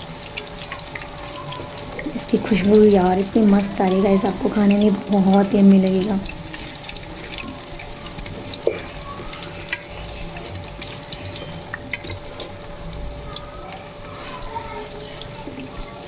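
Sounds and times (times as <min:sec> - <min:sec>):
battered food deep-frying in oil: 0:00.0 - 0:16.0
crackles and pops of frying: 0:00.0 - 0:16.0.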